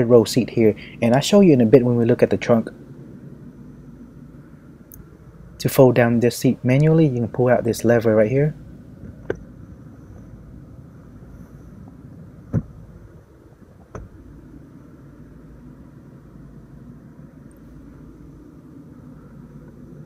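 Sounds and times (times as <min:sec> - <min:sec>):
low cabin hum: 0:00.0 - 0:20.0.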